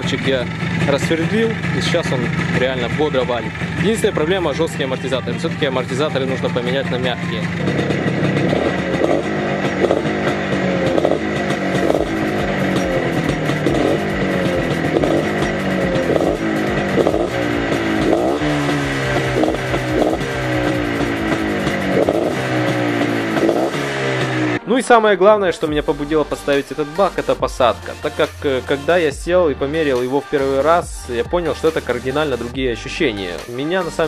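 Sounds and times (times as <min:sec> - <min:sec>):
motorcycle engine revving: 0:00.0 - 0:24.8, 0:25.5 - 0:34.0
music: 0:00.0 - 0:34.0.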